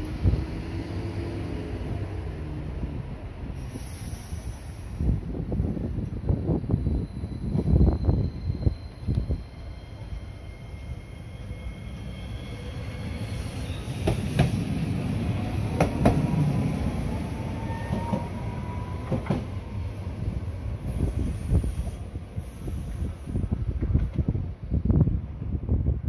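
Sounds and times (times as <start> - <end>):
tram motor whine: 0.0 - 3.8, 4.4 - 24.4.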